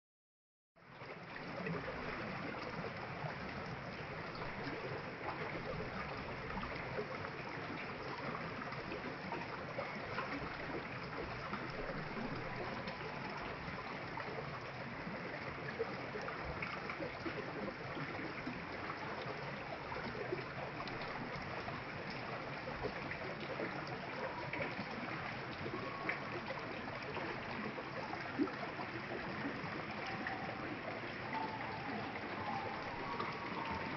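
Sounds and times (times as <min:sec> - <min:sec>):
stream water running: 0:00.8 - 0:33.9.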